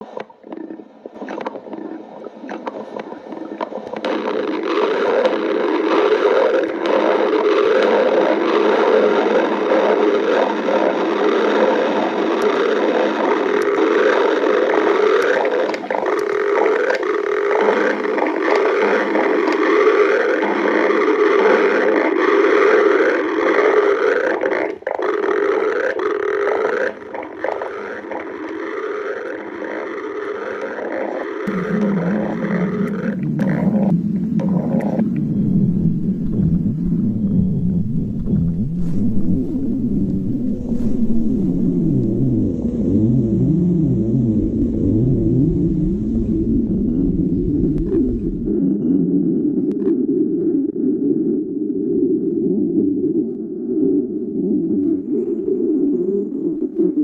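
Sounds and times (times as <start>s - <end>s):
stomach growling: 0.0s - 57.0s.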